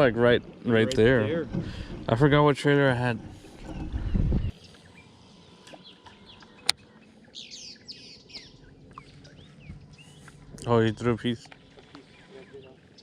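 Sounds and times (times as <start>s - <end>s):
wild birds chirping: 0.7s - 13.0s.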